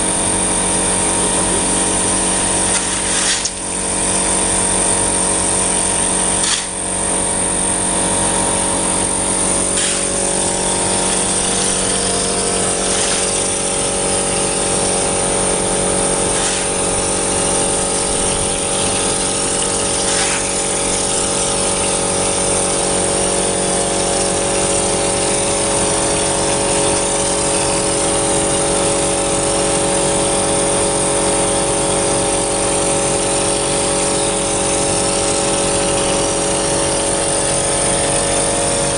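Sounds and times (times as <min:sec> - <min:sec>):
spraying machine running: 0:00.0 - 0:38.9.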